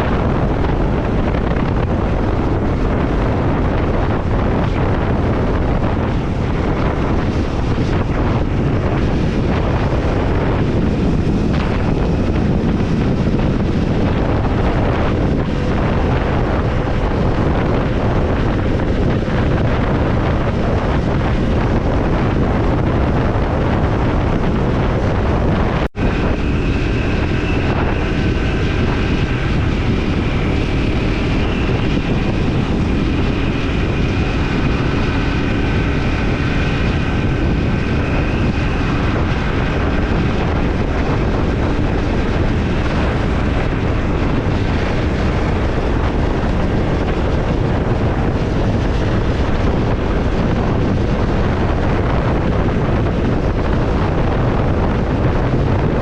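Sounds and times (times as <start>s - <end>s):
motorbike engine cruising: 0.0s - 56.0s
wind rush on microphone: 0.0s - 56.0s.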